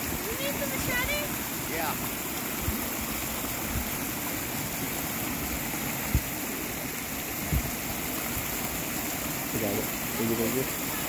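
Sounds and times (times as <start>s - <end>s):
creek rushing: 0.0s - 11.0s.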